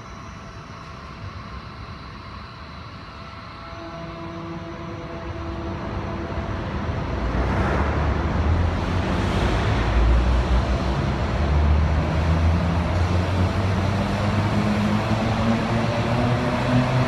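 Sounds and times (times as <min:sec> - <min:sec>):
train passing with rumble: 0:00.0 - 0:17.0.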